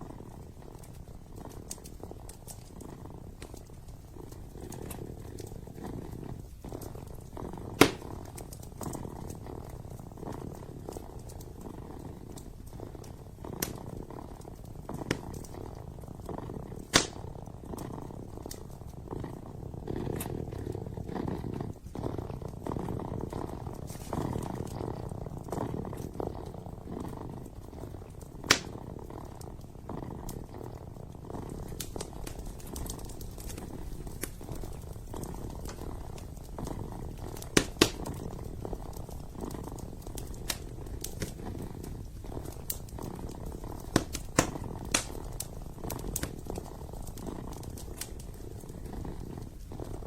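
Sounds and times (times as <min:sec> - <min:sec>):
kitten purring: 0:00.0 - 0:50.0
wood fire popping: 0:00.0 - 0:50.0.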